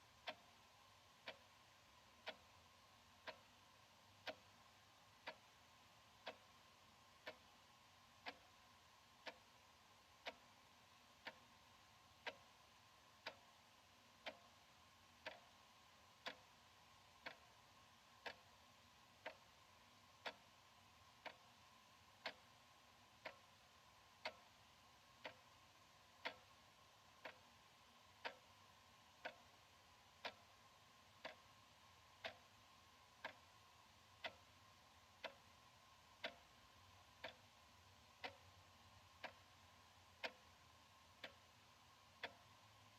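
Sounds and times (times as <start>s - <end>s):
wall clock ticking: 0.0s - 42.9s.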